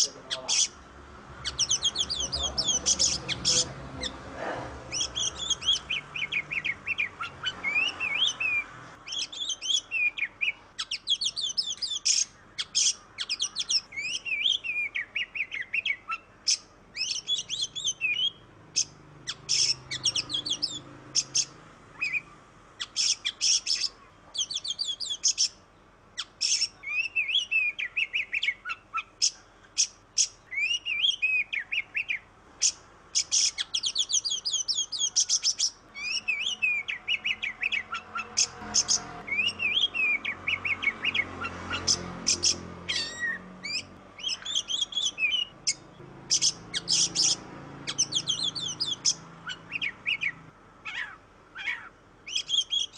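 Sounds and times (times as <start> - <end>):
bird singing whistles and trills: 1.4 - 4.2, 4.9 - 25.6, 26.2 - 52.9.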